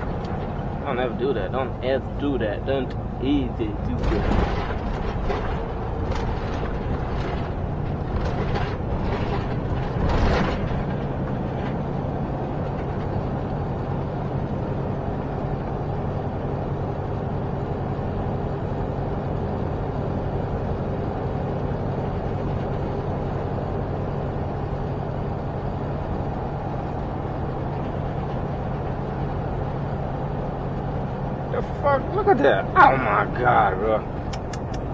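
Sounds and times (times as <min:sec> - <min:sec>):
diesel engine droning: 0:00.0 - 0:34.9
road and wind noise: 0:00.0 - 0:34.9.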